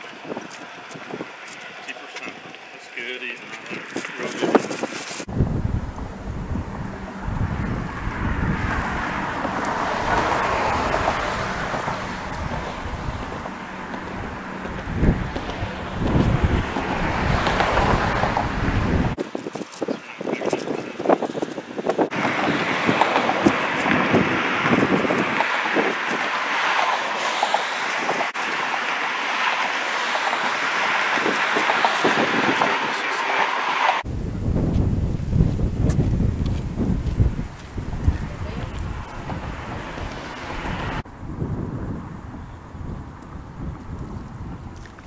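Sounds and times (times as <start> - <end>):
car tyres passing: 0.0 - 19.4, 20.4 - 44.8
rushing outdoor background noise: 0.0 - 45.0
wind rumbling on microphone: 0.0 - 45.0.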